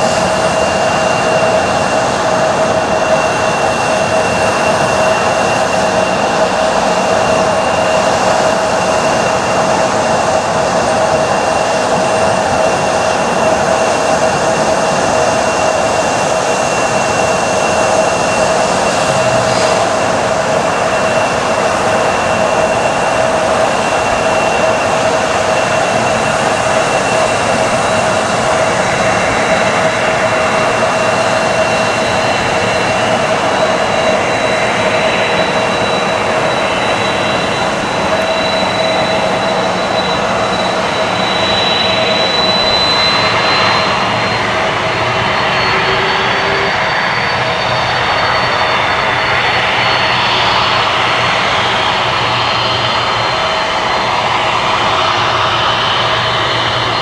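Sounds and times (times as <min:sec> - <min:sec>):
high engine tone: 0:00.0 - 0:57.0
jet engines whining: 0:00.0 - 0:57.0.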